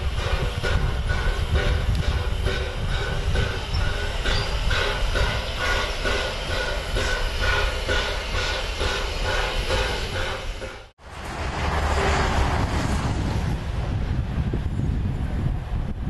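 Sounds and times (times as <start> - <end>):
steam locomotive chuffing: 0.0 - 15.5.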